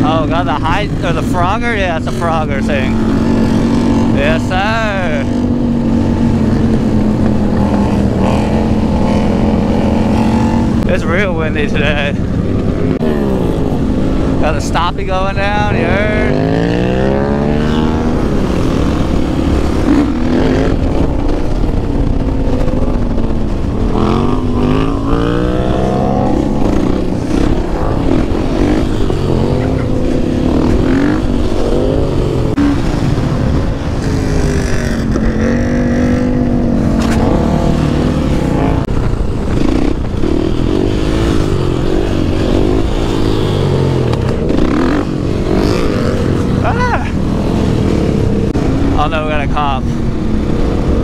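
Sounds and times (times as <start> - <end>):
dirt bike engine revving: 0.0 - 51.0
wind rushing over microphone: 0.0 - 51.0.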